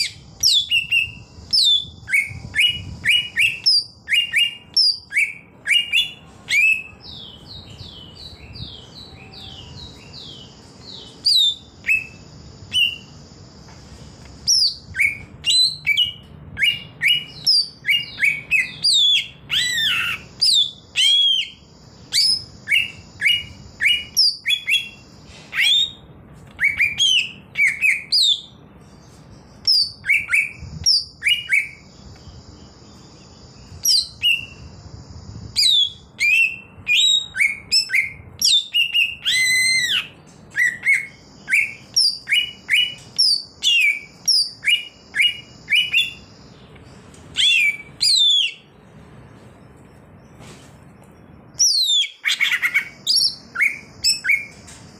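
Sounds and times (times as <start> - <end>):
bird chirping and whistling: 0.0 - 13.2, 14.4 - 28.6, 29.6 - 46.6, 47.3 - 48.7, 51.6 - 54.6.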